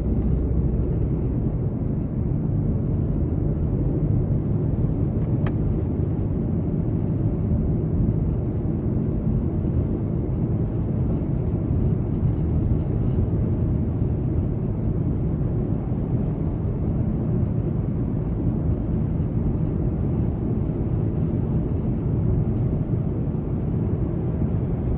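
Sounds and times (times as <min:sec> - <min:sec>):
car engine and tyres rumbling on snow: 0:00.0 - 0:24.9.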